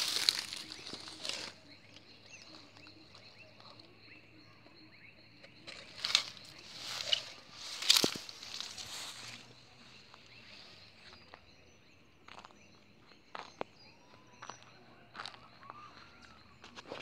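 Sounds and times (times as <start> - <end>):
footsteps through dry grass: 0.0 - 3.5, 5.8 - 11.6, 12.3 - 17.0.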